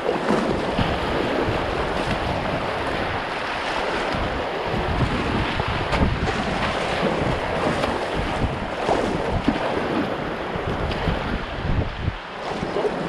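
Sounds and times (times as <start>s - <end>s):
paddle splashing: 0.0s - 13.0s
river water splashing: 0.0s - 13.0s
wind buffeting microphone: 0.0s - 13.0s.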